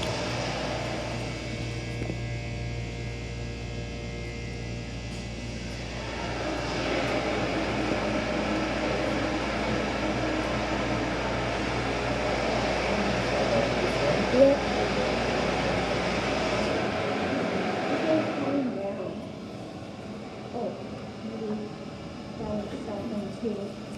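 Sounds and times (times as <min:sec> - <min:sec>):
elevator machinery humming: 0:00.0 - 0:23.9
rough machine running noise: 0:00.0 - 0:23.9.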